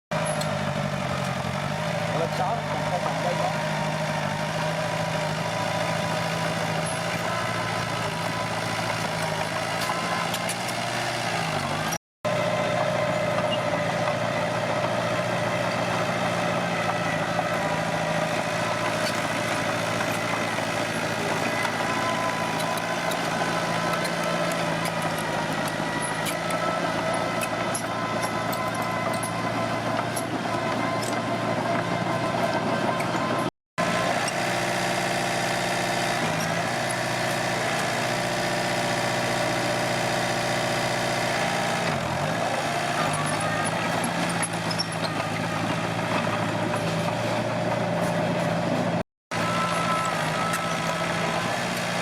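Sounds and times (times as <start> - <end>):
bulldozer diesel engine running: 0.1 - 52.0.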